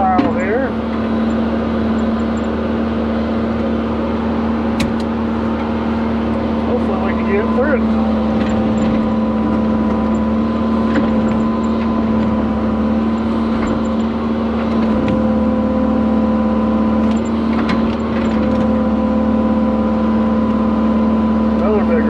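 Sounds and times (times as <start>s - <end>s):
diesel engine at high revs: 0.0s - 22.0s.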